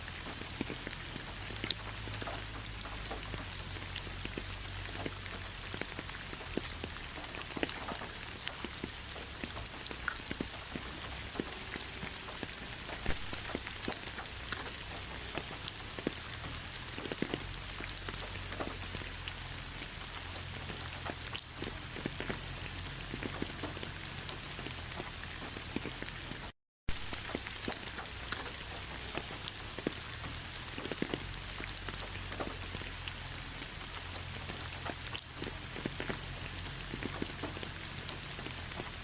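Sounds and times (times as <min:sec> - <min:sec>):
rain on leaves: 0:00.0 - 0:39.0.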